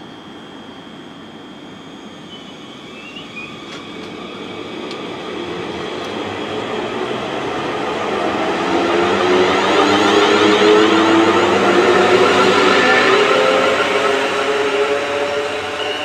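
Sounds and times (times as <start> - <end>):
electric train running: 0.0 - 16.0
low motor whine: 0.0 - 16.0.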